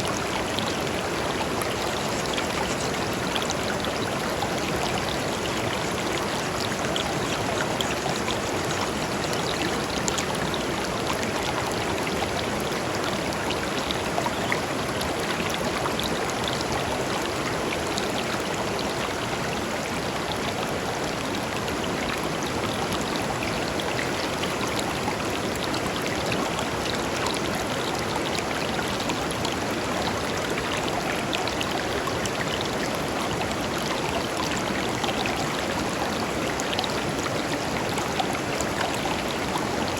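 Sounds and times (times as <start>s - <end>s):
river flowing over stones: 0.0s - 39.9s
water splashing and trickling: 0.0s - 39.9s.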